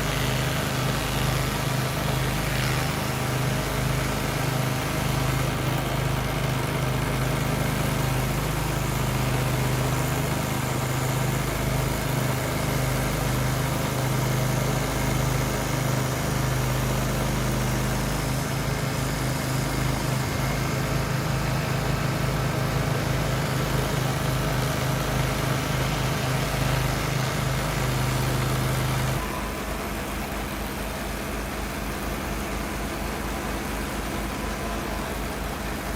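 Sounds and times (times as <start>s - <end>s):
gasoline engine running: 0.0s - 35.9s.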